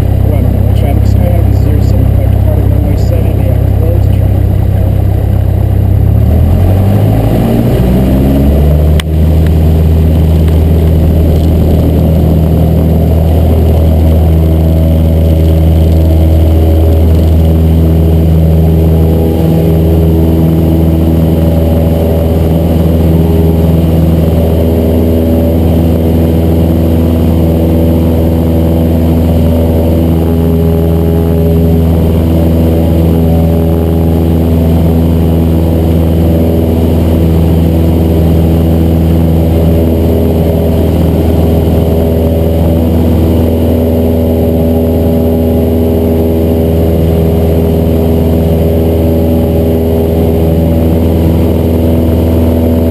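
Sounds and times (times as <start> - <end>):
small plane engine and propeller: 0.0 - 52.9.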